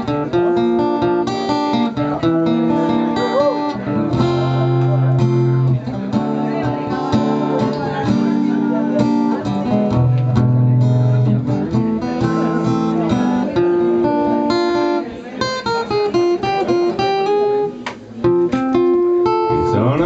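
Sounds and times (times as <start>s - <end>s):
acoustic guitar strumming chords: 0.0s - 20.0s
electric guitar melody: 0.0s - 20.0s.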